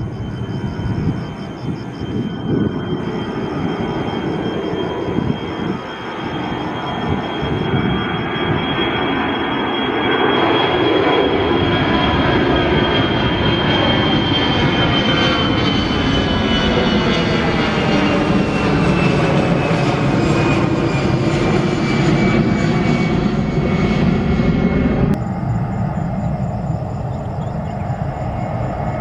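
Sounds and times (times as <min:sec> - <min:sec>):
airliner engines rumbling and whining: 0:00.0 - 0:29.0.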